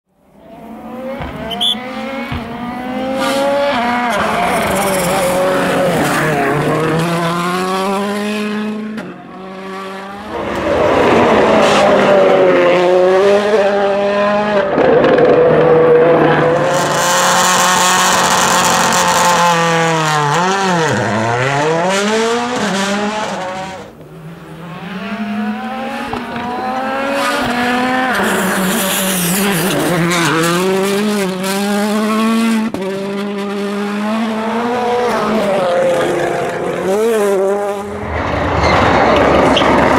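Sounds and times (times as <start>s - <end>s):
rally car engines revving: 0.2s - 39.9s.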